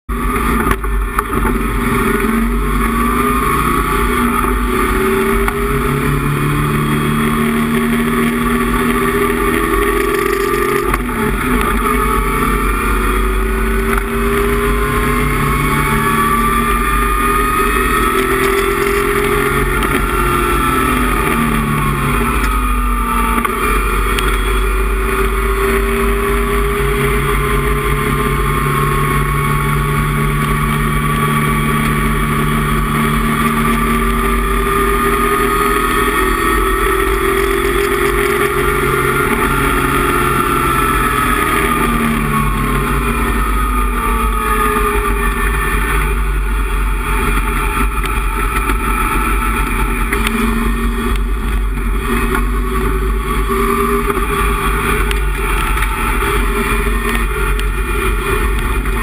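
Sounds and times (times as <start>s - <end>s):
race car engine revving: 0.1s - 59.0s.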